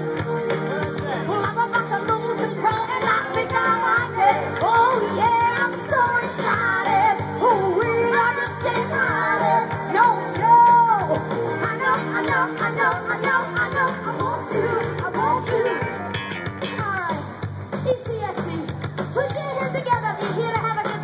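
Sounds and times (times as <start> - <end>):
electric guitar: 0.0 - 21.0
live rock band playing: 0.0 - 21.0
woman singing into microphone: 1.3 - 21.0.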